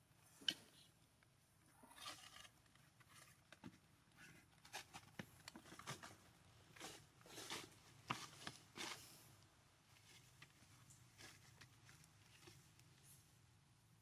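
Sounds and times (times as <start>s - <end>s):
soft clicks and rustles of grooming: 0.0s - 13.3s.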